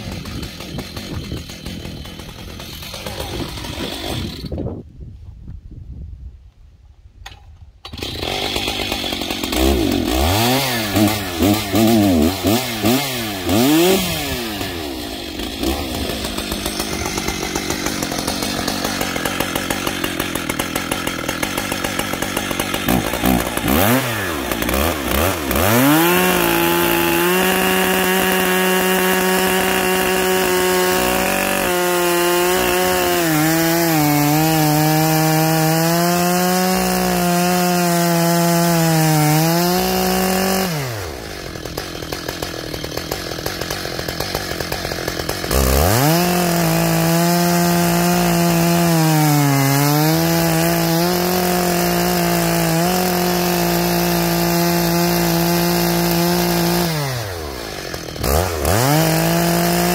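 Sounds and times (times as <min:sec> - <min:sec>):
chainsaw idling: 0:00.0 - 0:04.6, 0:07.8 - 0:59.9
chainsaw cutting wood: 0:00.0 - 0:04.8, 0:07.2 - 0:59.9.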